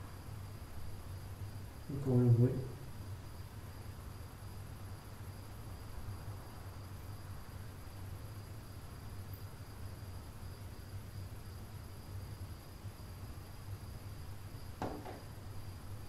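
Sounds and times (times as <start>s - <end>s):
high-pitched steady whine: 0.0s - 16.0s
steady hiss: 0.0s - 16.0s.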